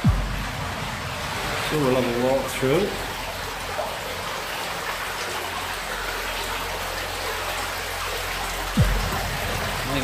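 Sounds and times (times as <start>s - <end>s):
stream flowing over stones: 0.0s - 10.0s.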